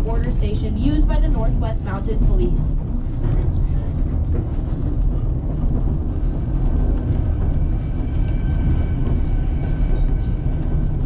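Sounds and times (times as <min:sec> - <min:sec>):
train rumbling along track: 0:00.0 - 0:11.0.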